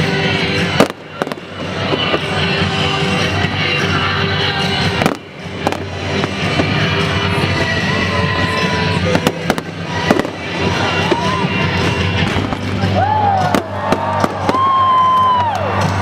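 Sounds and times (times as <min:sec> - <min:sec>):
steady music: 0:00.0 - 0:16.0
fireworks bursting in sharp bangs: 0:00.4 - 0:07.7, 0:08.7 - 0:15.4.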